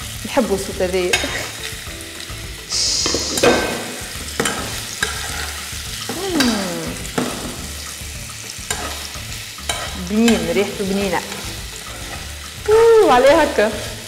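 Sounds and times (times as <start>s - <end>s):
meatballs sizzling in oil: 0.0s - 14.0s.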